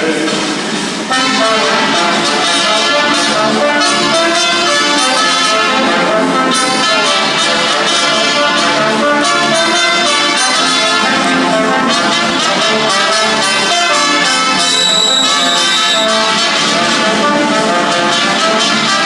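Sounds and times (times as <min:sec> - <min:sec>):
brass band playing folk dance: 0:00.0 - 0:19.0.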